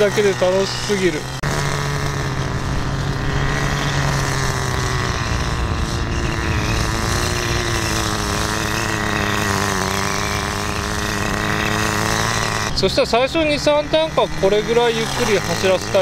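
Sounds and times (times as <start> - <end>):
small model car engine running: 0.0 - 16.0.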